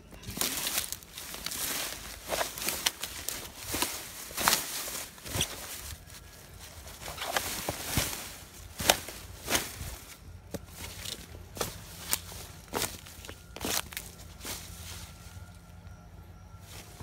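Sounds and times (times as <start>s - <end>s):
footsteps through grass and leaves: 0.0s - 17.0s.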